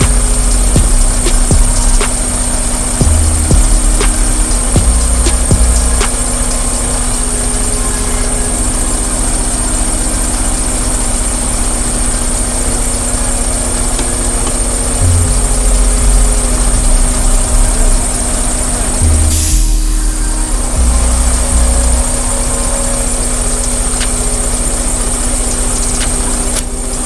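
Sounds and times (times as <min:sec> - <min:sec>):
truck diesel engine idling: 0:00.0 - 0:27.0.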